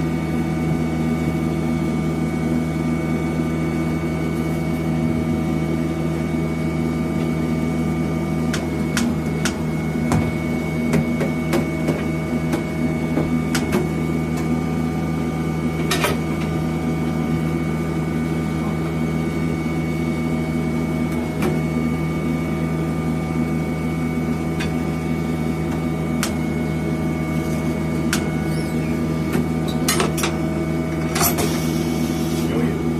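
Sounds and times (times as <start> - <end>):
electric motor hum: 0.0 - 29.8, 30.4 - 32.9.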